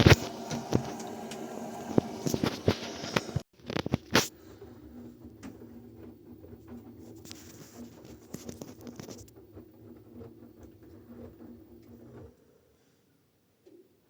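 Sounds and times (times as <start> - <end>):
washing machine motor hum: 0.0 - 12.4.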